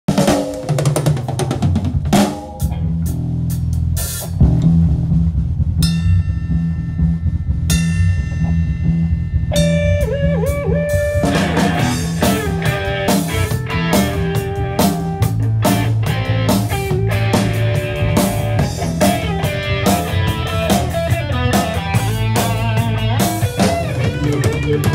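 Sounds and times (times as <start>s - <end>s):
drum kit: 0.0s - 24.9s
electric bass groove: 1.5s - 24.9s
bent guitar notes: 2.0s - 24.9s
electric guitar chords: 2.4s - 24.9s.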